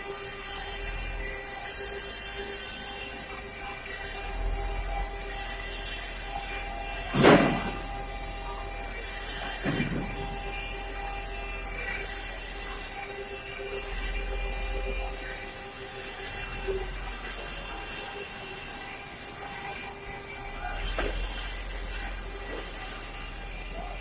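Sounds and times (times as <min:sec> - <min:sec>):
spindle high whine: 0:00.0 - 0:24.0.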